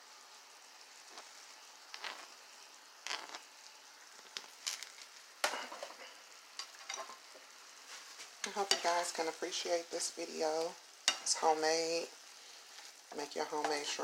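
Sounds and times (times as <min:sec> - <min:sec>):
shrimp sizzling in a skillet: 0:00.0 - 0:14.0.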